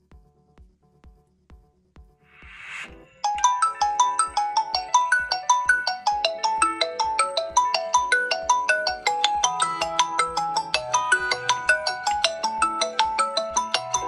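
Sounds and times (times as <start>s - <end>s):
smartphone ringtone melody: 2.5s - 14.0s.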